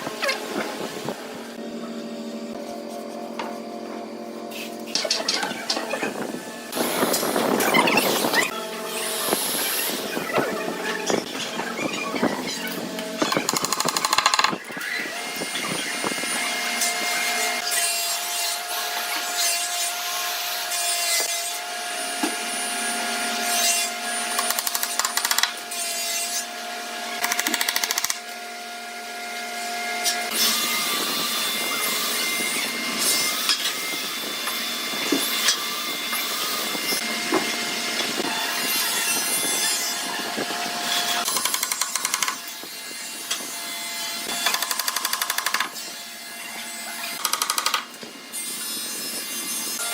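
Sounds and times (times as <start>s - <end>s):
power tools cutting wood: 0.0s - 49.9s.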